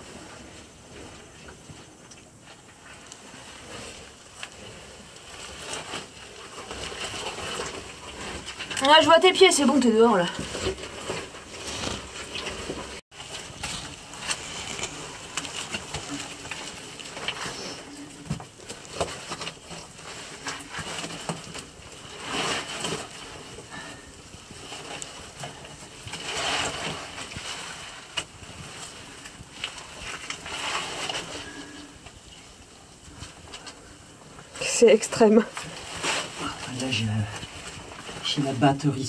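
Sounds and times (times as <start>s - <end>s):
oversuit scraping against rock: 2.9s - 17.9s, 18.7s - 32.0s, 34.6s - 39.0s.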